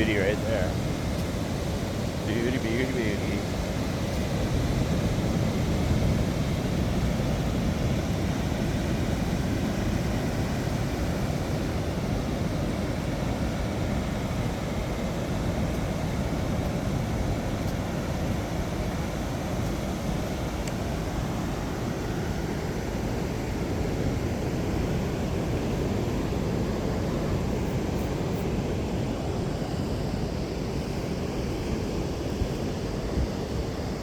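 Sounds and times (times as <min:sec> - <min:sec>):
ocean surf: 0:00.0 - 0:34.0.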